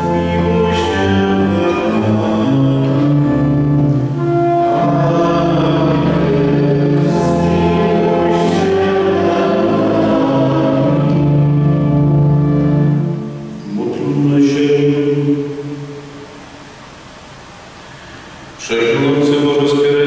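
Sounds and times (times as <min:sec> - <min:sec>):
congregation singing a hymn: 0:00.0 - 0:16.2.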